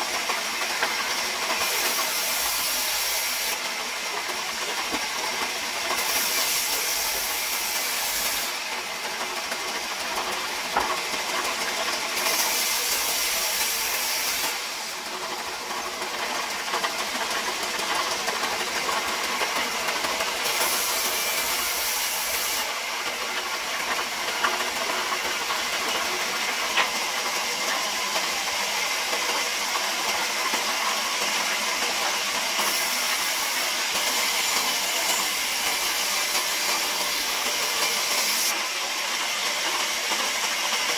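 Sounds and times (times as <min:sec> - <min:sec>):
band saw cutting timber: 0:00.0 - 0:40.9.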